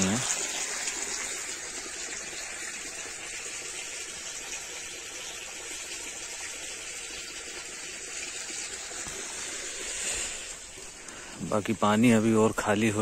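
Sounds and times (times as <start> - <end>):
water gushing from a pipe: 0.0 - 13.0.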